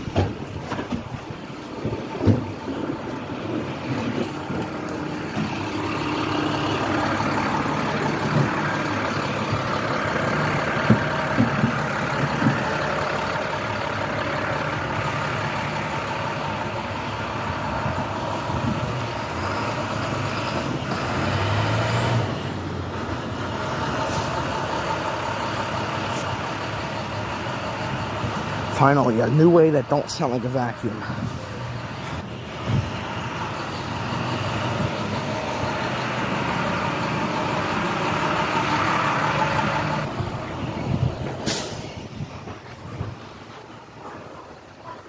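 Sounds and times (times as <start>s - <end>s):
garbage truck engine droning: 0.0s - 45.0s.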